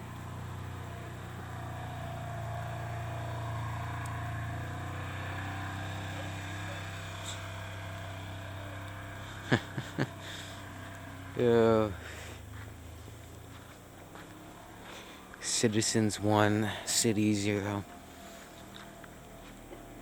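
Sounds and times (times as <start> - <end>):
low engine hum with hiss: 0.0 - 20.0.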